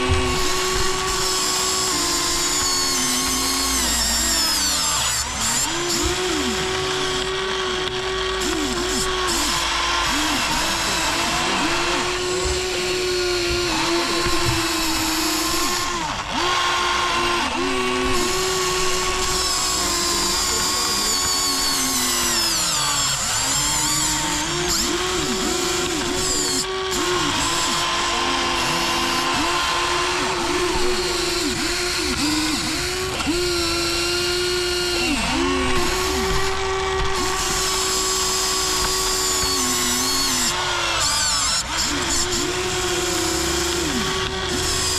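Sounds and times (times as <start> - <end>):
small electric motors whining: 0.0 - 44.9.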